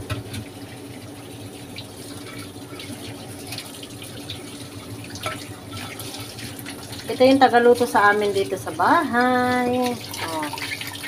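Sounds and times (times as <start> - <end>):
tap water running into steel sink: 0.0 - 11.0.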